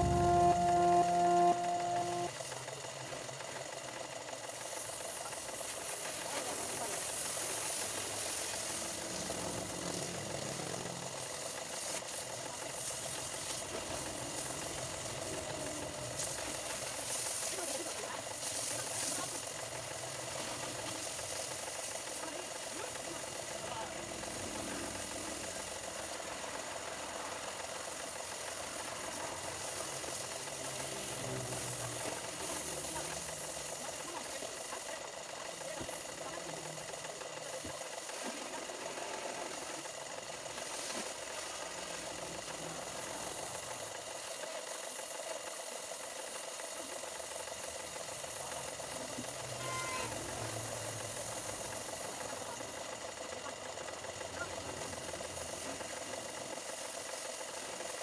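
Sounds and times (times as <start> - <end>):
machine humming with hiss: 0.0 - 58.0.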